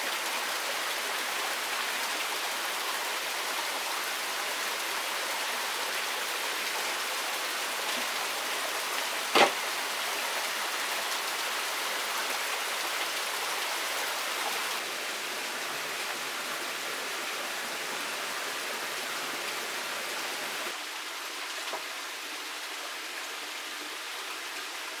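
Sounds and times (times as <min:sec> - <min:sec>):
steady water hiss: 0:00.0 - 0:25.0.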